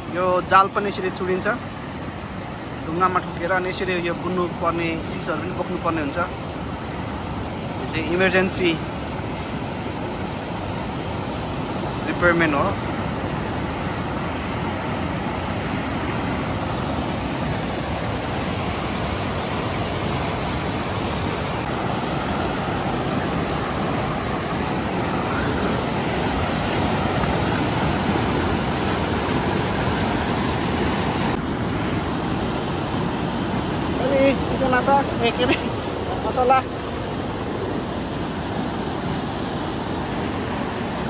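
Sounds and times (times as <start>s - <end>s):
river rushing over rocks: 0.0s - 41.0s.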